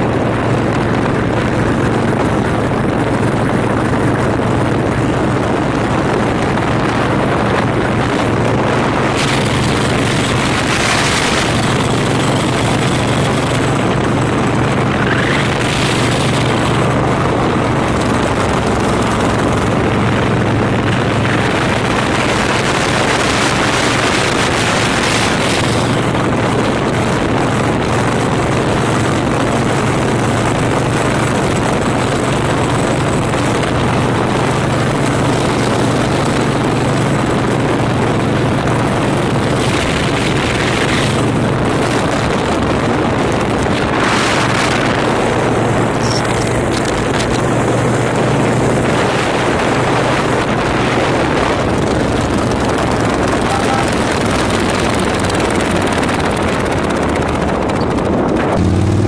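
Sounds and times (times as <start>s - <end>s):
motorcycle engines running: 0.0s - 59.0s
wind rush on microphone: 0.0s - 59.0s.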